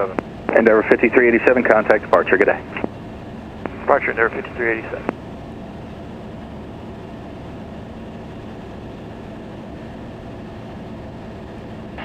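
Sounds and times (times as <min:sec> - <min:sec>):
aircraft engine drone in cabin: 0:00.0 - 0:12.0.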